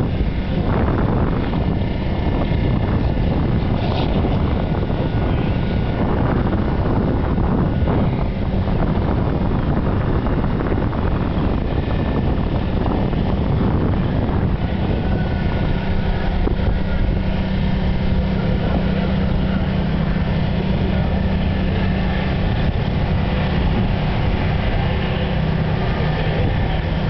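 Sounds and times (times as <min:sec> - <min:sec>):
boat engine running: 0:00.0 - 0:27.0
wind on microphone: 0:00.0 - 0:27.0.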